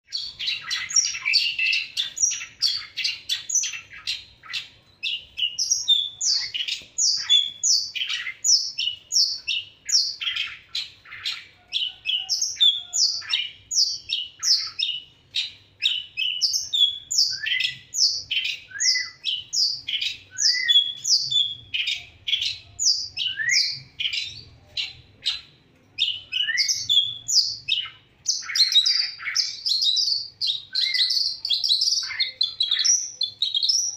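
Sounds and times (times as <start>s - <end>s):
bird singing high chirps: 0.0s - 33.9s.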